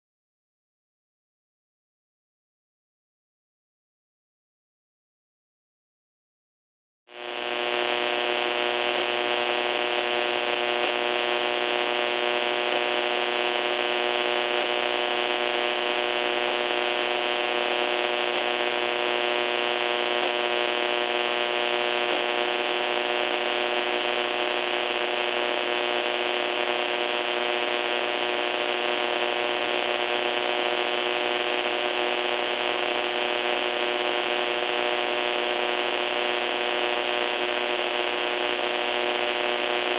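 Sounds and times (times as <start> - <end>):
radio static hum and hiss: 7.1 - 39.9.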